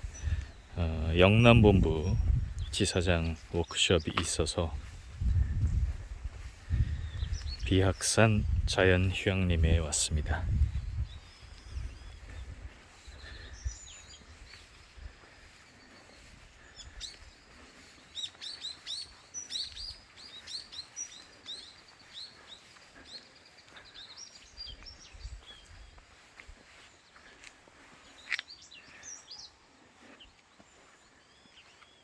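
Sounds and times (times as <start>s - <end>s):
songbirds chirping: 0.0s - 32.0s.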